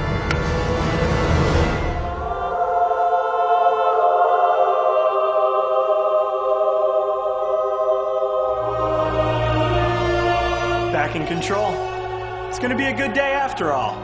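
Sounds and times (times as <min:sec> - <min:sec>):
choir singing held chord: 0:00.3 - 0:14.0.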